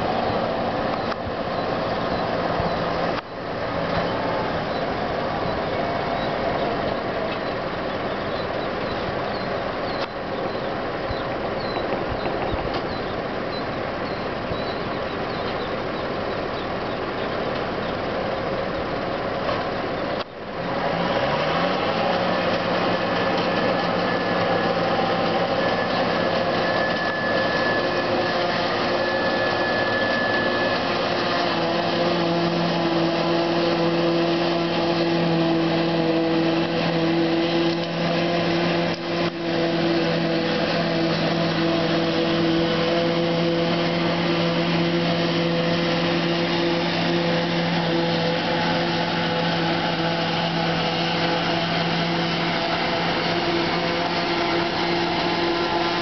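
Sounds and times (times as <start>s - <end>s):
tractor and harvester drone: 0.0s - 56.0s.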